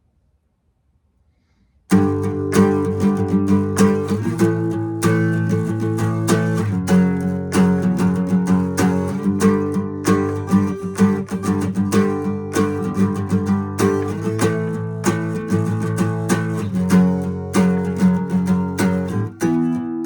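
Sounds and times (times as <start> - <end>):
guitar plucked and strummed: 1.9 - 20.0.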